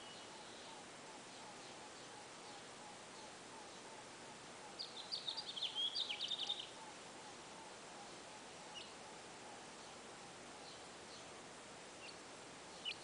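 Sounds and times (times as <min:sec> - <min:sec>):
faint lower bird notes: 0:00.0 - 0:11.4
songbird twittering: 0:00.0 - 0:11.4, 0:12.0 - 0:13.0.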